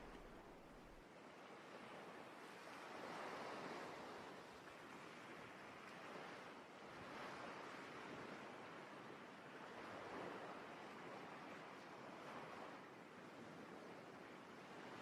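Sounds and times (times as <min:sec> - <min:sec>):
faint sea waves washing in: 0:00.0 - 0:15.0.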